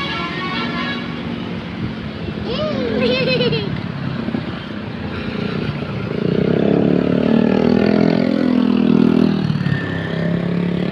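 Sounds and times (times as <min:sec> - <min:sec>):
bus engine passing by: 0:00.0 - 0:10.9.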